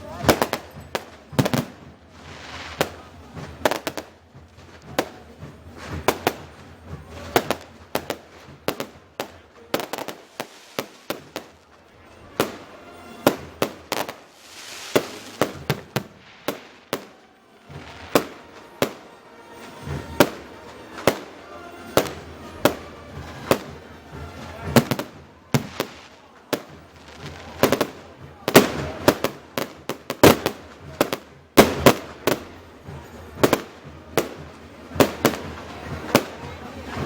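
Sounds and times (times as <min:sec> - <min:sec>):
fireworks crackling and hissing: 0:00.0 - 0:37.0
firework shells bursting: 0:00.1 - 0:37.0.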